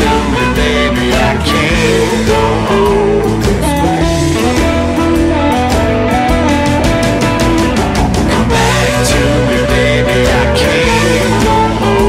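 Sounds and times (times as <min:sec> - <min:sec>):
bass: 0:00.0 - 0:12.0
blues guitar lines: 0:00.0 - 0:12.0
steady drum beat: 0:00.0 - 0:12.0.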